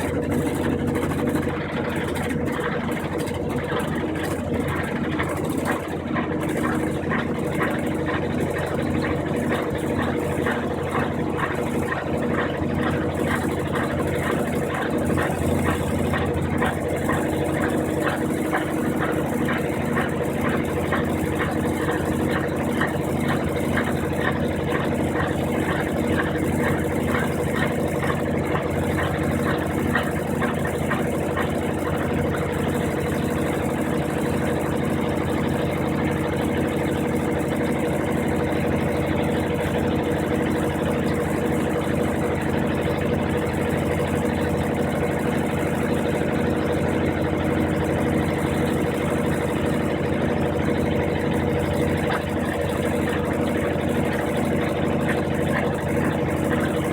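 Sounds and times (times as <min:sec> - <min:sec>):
washing machine running: 0:00.0 - 0:56.9.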